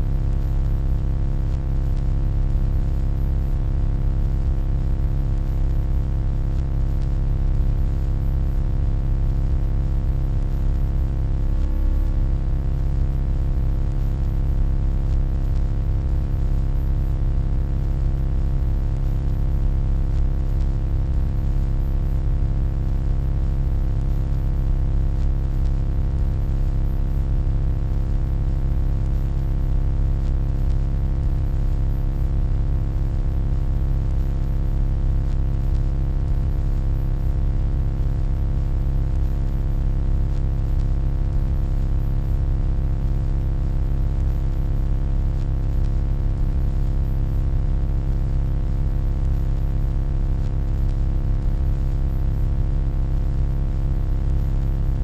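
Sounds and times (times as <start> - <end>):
electronic hum: 0.0 - 27.6, 28.2 - 34.3, 34.9 - 46.6.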